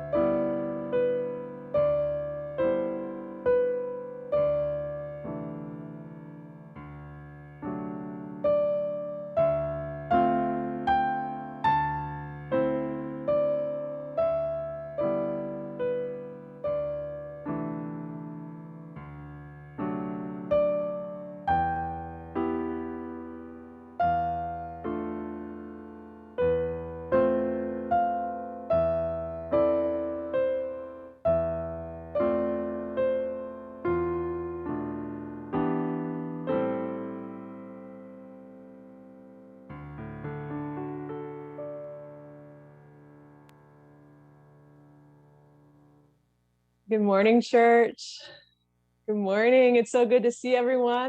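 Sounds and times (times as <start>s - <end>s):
solo piano chords: 0.0s - 46.2s.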